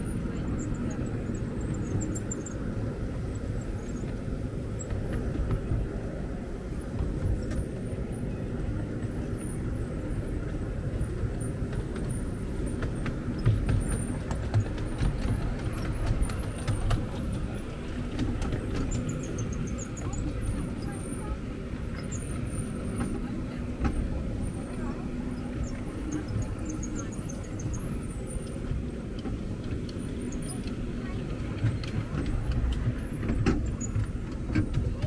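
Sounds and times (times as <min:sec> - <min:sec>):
miniature train rumbling: 0:00.0 - 0:35.0
train wheels clicking: 0:00.0 - 0:35.0.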